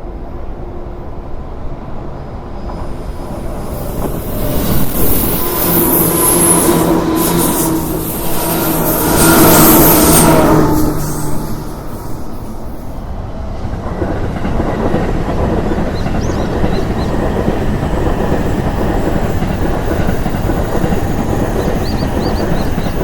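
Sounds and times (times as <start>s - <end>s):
train wheels clattering over rails: 2.6s - 23.0s.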